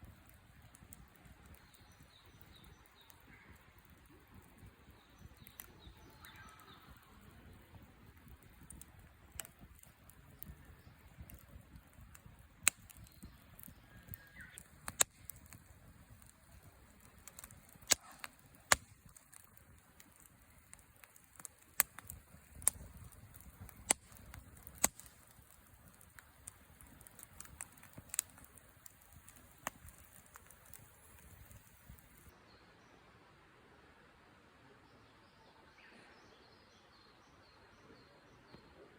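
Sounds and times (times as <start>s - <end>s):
campfire crackling: 0.0s - 32.4s.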